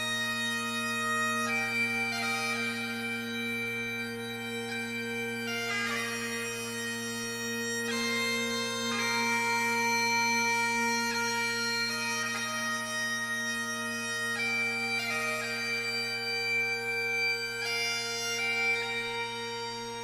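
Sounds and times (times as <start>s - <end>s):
slow melody of held notes: 0.0s - 20.0s.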